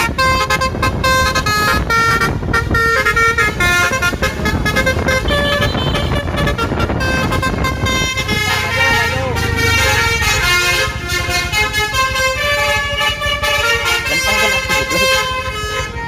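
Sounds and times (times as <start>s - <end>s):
multi-tone air horn melody: 0.0s - 16.0s.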